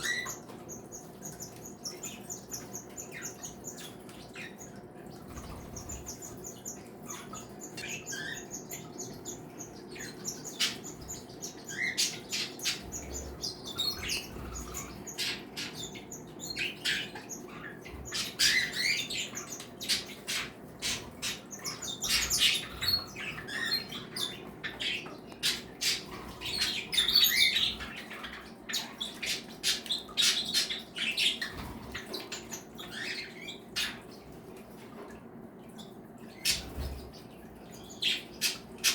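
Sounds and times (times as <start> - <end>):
cage birds chirping and squawking: 0.0 - 38.9.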